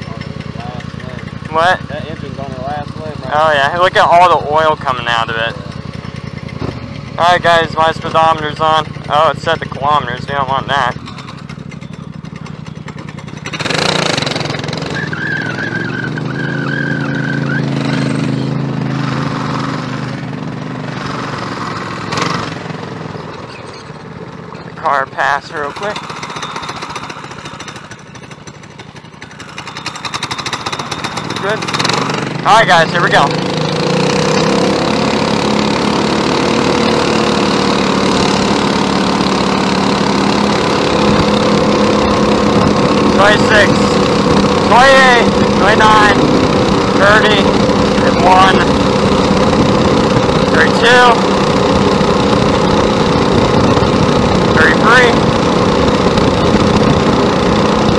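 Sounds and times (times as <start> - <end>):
go-kart engine running: 0.0 - 57.9.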